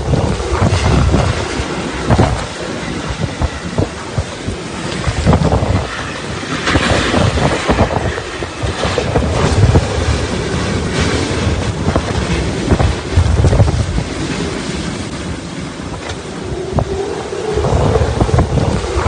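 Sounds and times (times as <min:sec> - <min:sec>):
wind gusting against microphone: 0:00.0 - 0:19.0.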